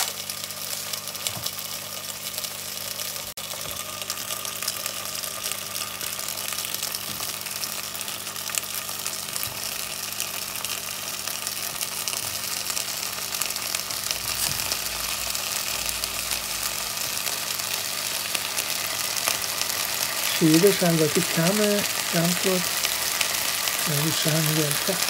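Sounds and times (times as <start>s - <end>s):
oil sizzling in a pot: 0.0s - 25.0s.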